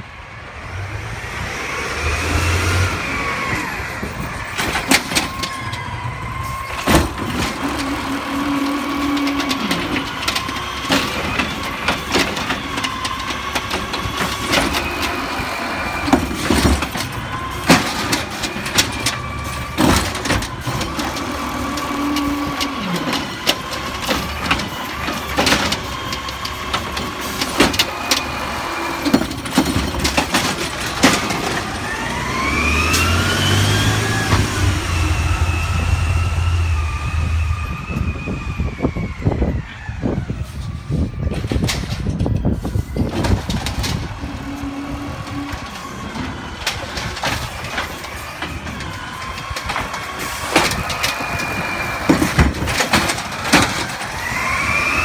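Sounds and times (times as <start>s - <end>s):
hydraulic arm whining: 0.0s - 55.0s
truck engine revving: 0.0s - 55.0s
cart banging and clattering: 2.0s - 55.0s.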